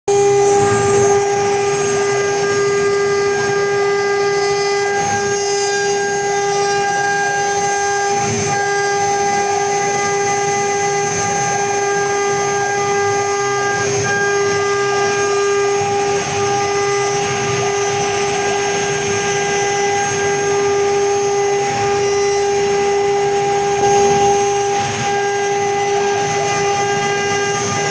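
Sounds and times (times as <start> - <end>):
router spindles high-pitched whine: 0.1 - 27.9.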